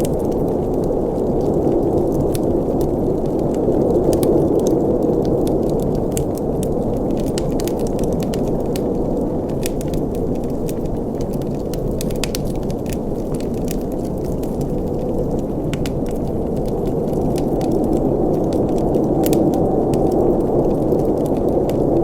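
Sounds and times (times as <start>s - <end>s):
rush of burning flames: 0.0s - 22.0s
wood fire crackling and popping: 0.0s - 22.0s.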